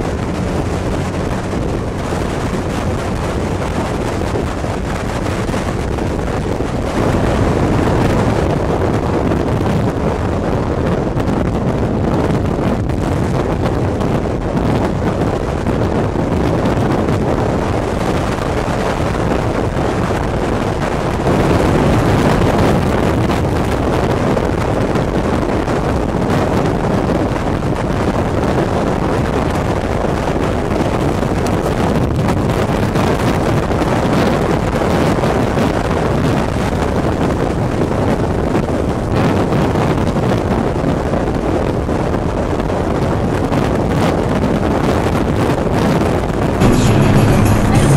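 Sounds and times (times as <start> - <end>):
vehicle wind and road noise: 0.0 - 47.9
wind buffeting microphone: 0.0 - 47.9.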